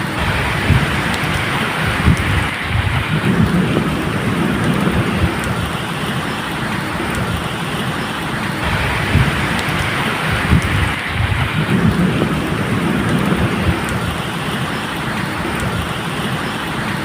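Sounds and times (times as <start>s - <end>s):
steady rain falling: 0.0s - 17.0s
thunder rumbles: 0.0s - 17.0s
sharp drip ticks: 0.1s - 17.0s.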